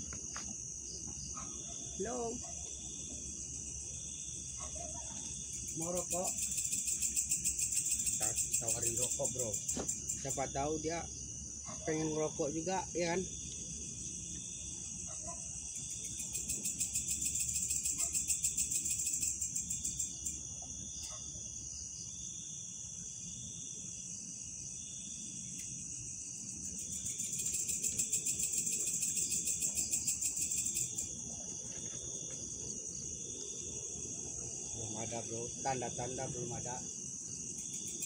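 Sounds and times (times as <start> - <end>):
crickets trilling: 0.0 - 38.0
high pulsing insect buzz: 0.0 - 38.0.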